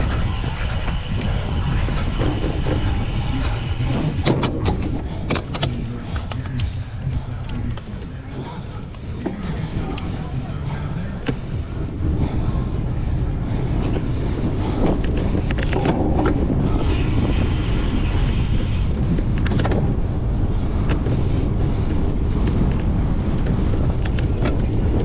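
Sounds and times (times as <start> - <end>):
bike tyres rumbling: 0.0 - 25.0
wind buffeting microphone: 0.0 - 25.0.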